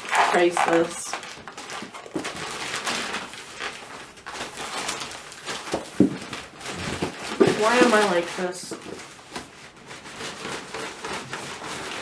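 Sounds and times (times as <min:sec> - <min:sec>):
packaging rustling and scraping: 0:00.0 - 0:12.0.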